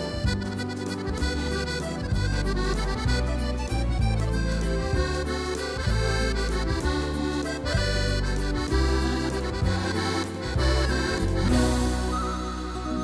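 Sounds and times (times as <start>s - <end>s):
accordion melody: 0.0s - 13.0s
bass accompaniment: 0.0s - 13.0s.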